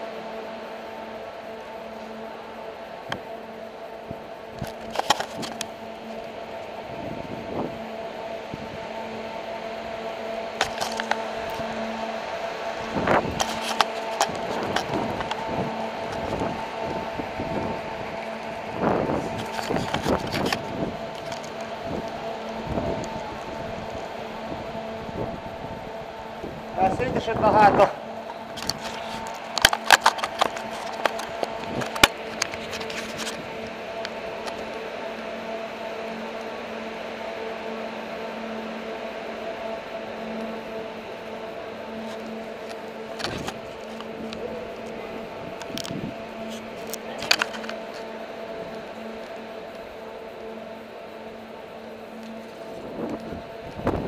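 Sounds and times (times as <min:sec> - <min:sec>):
skate wheels rolling on concrete: 0:00.0 - 0:54.0
steady low hum: 0:00.0 - 0:54.0.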